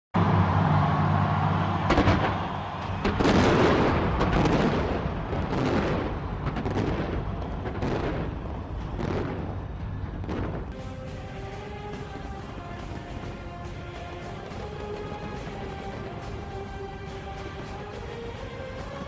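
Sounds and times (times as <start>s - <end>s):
fireworks booming and cracking: 1.9s - 19.0s.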